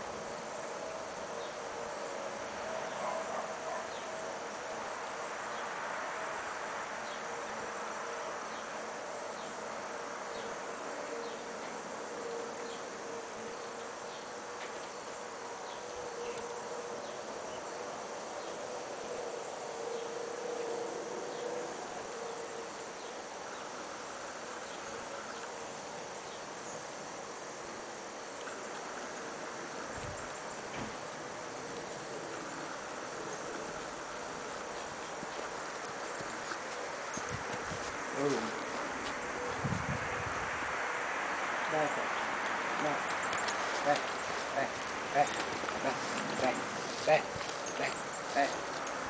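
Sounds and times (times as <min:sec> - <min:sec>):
insects droning: 0:00.0 - 0:49.0.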